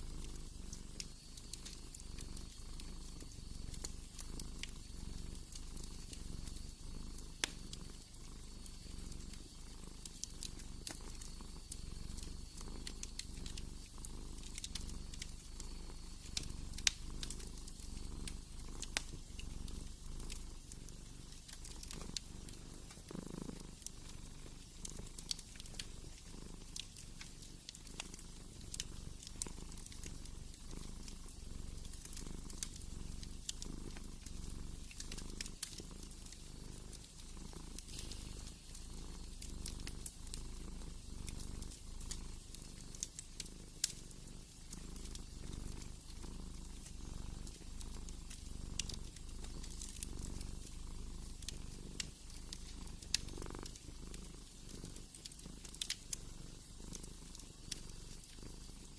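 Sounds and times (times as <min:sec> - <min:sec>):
cat purring: 0:00.0 - 0:58.9
wood fire crackling: 0:00.0 - 0:58.9.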